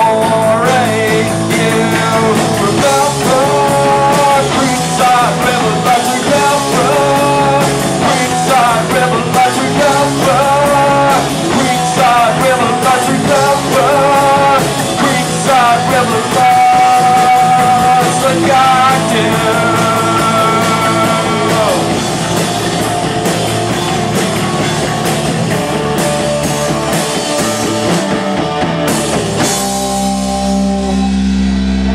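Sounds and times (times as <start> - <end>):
bass guitar: 0.0 - 31.9
drum kit: 0.0 - 31.9
electric guitars: 0.0 - 31.9.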